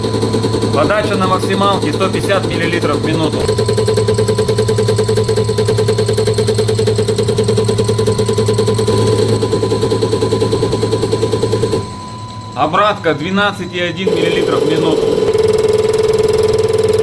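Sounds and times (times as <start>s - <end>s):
injector pulsing: 0.0s - 17.0s
machine hum: 0.0s - 17.0s.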